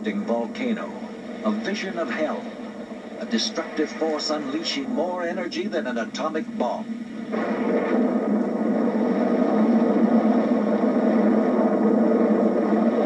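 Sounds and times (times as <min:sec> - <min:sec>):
lava fountain rumbling on television: 0:00.0 - 0:13.0.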